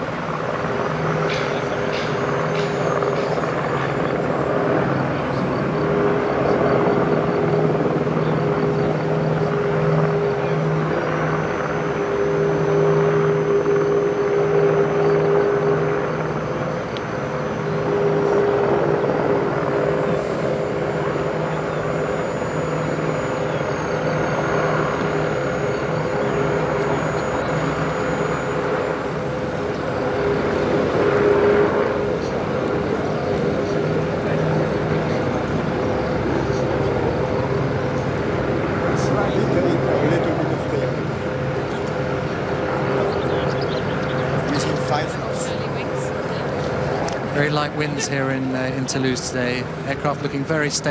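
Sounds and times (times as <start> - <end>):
aircraft engines droning: 0.0 - 50.9.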